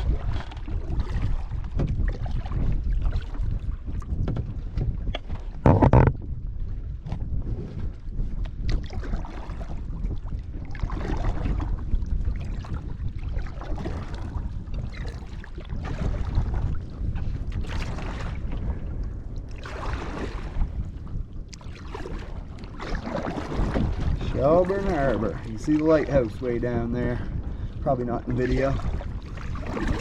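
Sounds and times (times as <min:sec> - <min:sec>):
water splashing from paddle: 0:00.0 - 0:06.4, 0:07.0 - 0:30.0
wind rumbling on microphone: 0:00.0 - 0:30.0.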